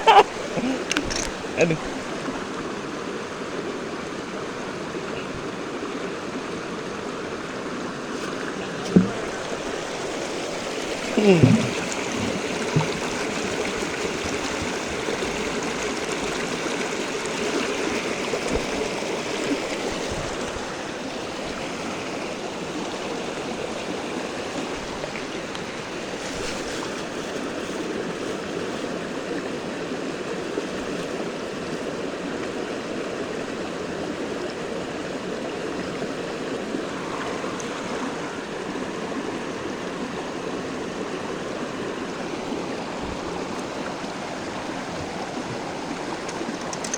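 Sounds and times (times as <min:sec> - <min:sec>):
stream water rushing: 0:00.0 - 0:46.9.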